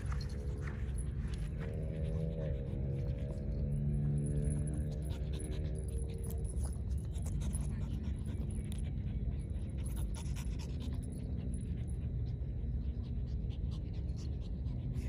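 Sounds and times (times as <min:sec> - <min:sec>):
dogs panting hard: 0:00.0 - 0:15.0.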